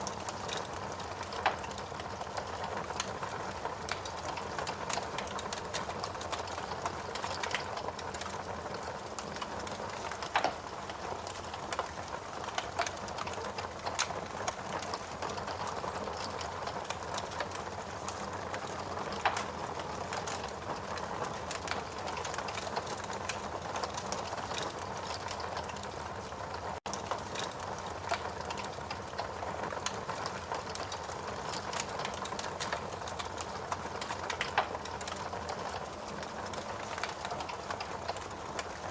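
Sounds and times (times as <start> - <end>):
fire pops: 0.0 - 25.9, 26.9 - 38.7
wood fire crackling: 0.0 - 38.9.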